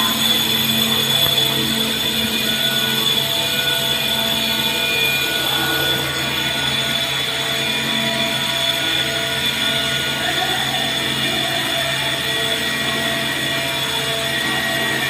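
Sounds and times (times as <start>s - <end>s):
rock drill machine drilling: 0.0s - 15.0s.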